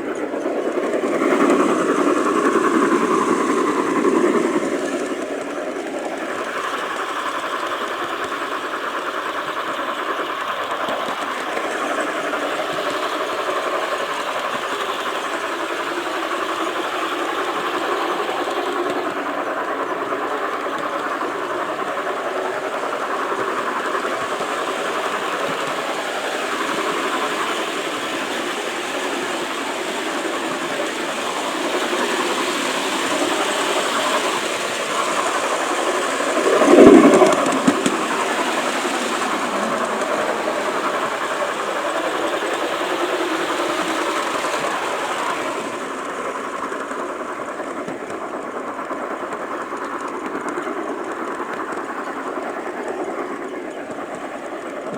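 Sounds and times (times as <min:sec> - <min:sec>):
model train rolling rattle: 0:00.0 - 0:54.9.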